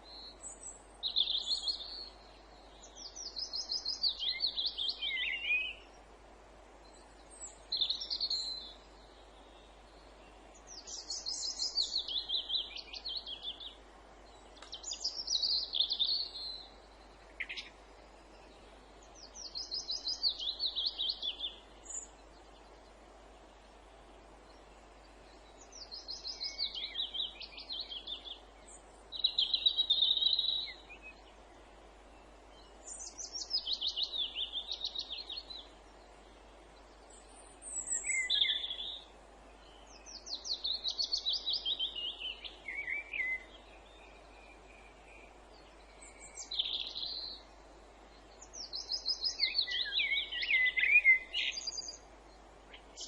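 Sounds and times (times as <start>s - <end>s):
faint outdoor hiss: 0.0s - 53.0s
songbird singing: 0.0s - 53.0s.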